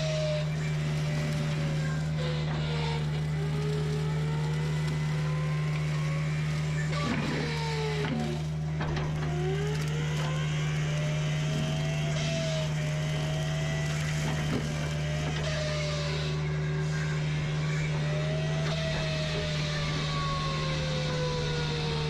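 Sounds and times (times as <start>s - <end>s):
mulcher engine drone with whine: 0.0s - 22.0s.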